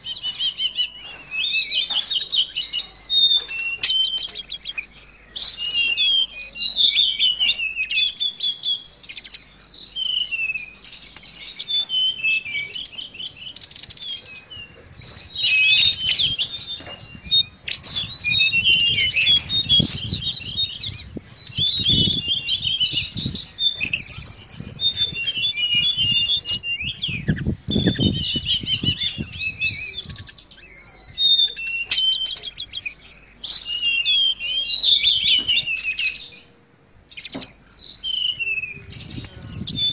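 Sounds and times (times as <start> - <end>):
bird singing rapid chirps and trills: 0.0 - 39.9.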